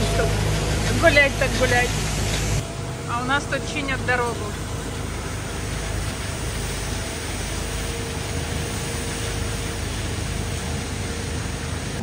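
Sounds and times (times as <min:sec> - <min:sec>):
vehicle driving on road: 0:00.0 - 0:12.0.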